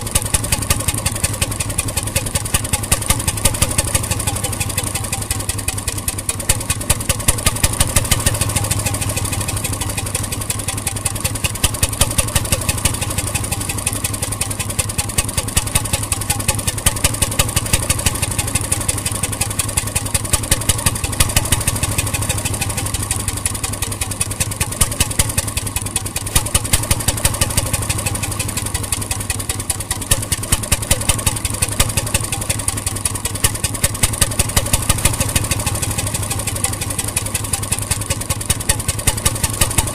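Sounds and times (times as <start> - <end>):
marine engine running: 0.0 - 39.9.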